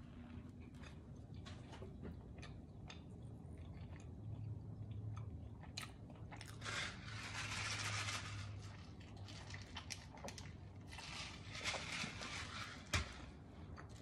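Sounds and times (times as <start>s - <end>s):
chewing and crunching food: 0.0s - 14.0s
low steady hum: 0.0s - 14.0s.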